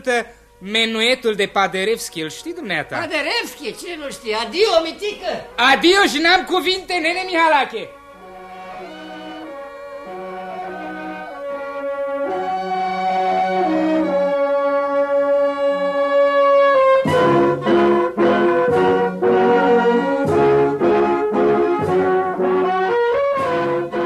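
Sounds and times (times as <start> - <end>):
brass band playing: 2.0 - 24.0.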